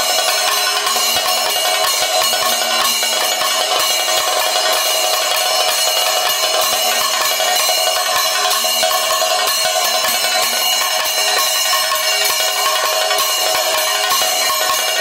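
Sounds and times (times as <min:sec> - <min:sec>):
hand cymbals clashing: 0:00.0 - 0:15.0
hand-played barrel drum: 0:00.0 - 0:15.0.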